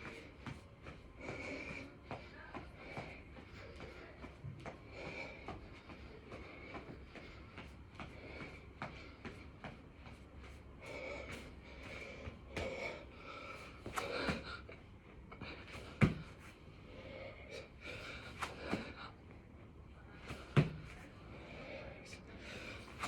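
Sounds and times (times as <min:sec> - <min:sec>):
man breathing hard: 0:00.0 - 0:19.5.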